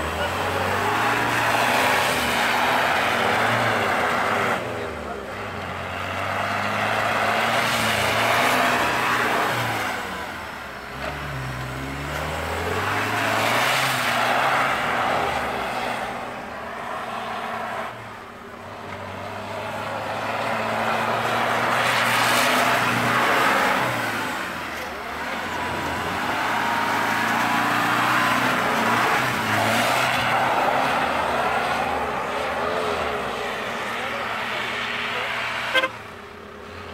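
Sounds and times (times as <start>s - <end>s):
diesel engine revving: 0.0s - 36.9s.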